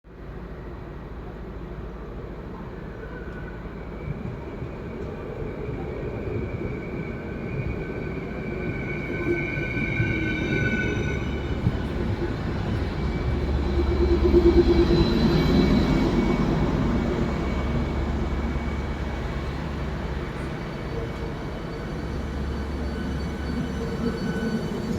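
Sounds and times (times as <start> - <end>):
train rumbling on rails: 0.1 - 24.9.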